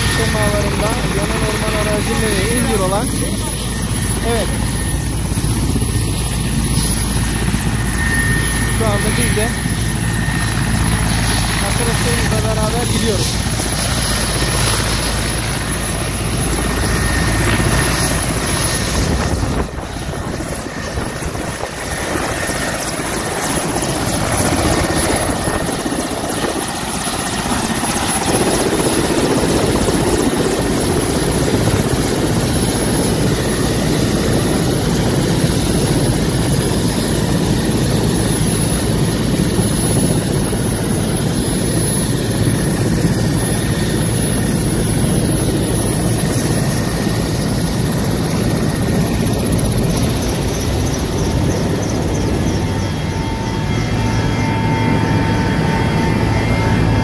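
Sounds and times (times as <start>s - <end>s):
helicopter turbines running: 0.0s - 57.0s.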